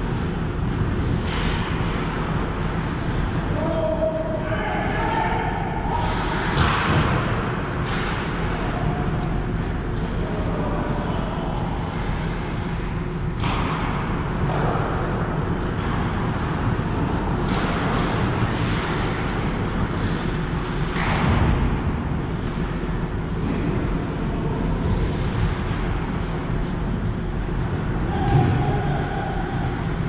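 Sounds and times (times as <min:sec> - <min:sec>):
arena noise rumble: 0:00.0 - 0:30.0.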